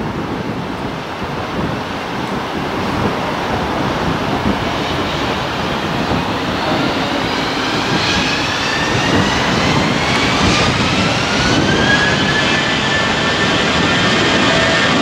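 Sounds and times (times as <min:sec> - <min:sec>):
jet engines roaring with whine: 0:00.0 - 0:15.0.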